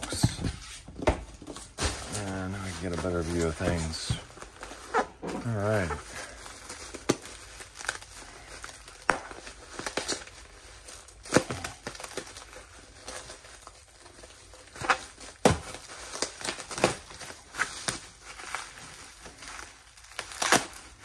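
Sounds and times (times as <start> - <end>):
bubble wrap crinkling and crackling: 0.0 - 21.0.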